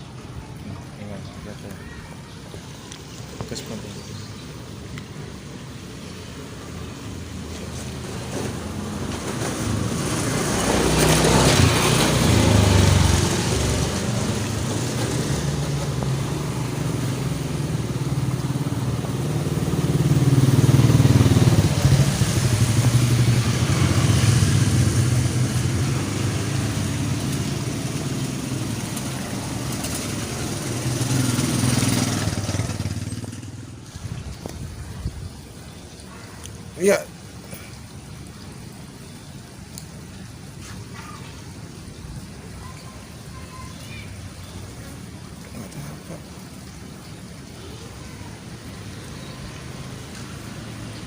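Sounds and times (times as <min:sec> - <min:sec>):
motorcycles passing by: 0:00.0 - 0:51.0.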